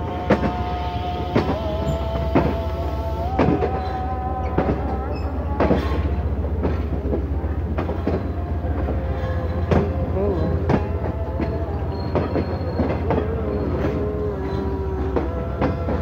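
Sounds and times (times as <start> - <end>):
train running rumble: 0.0 - 16.0
train wheels knocking on rail joints: 0.0 - 16.0.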